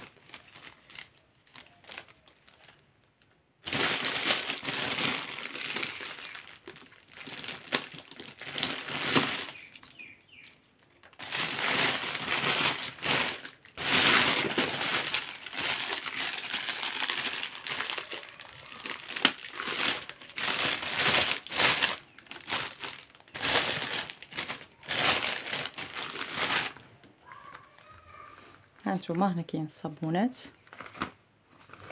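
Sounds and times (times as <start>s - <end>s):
cellophane crinkling: 0.0s - 29.4s, 30.5s - 31.9s.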